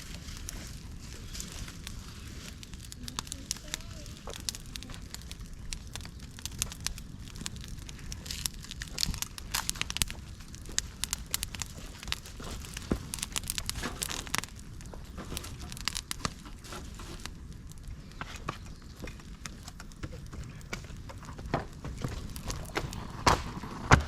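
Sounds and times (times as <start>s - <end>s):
fire crackling: 0.0s - 24.0s
sharp pops and snaps: 0.0s - 24.0s.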